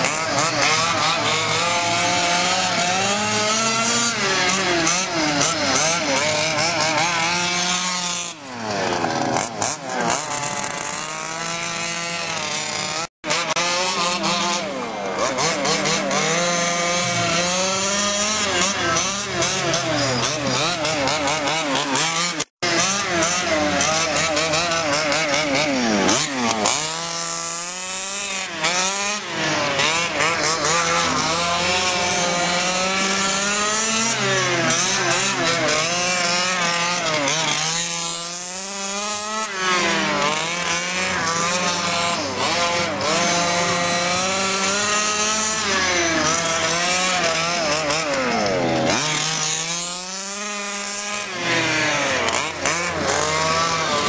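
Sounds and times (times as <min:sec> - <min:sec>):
rc car engine revving: 0:00.0 - 0:54.0.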